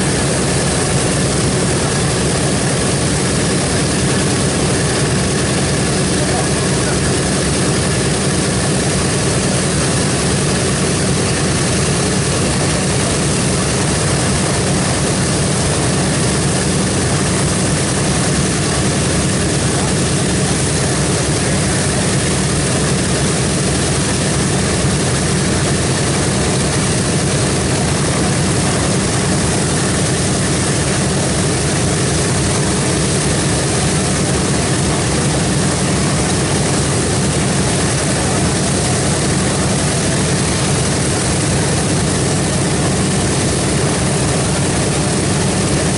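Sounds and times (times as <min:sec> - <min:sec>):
radial piston engines idling: 0:00.0 - 0:45.9.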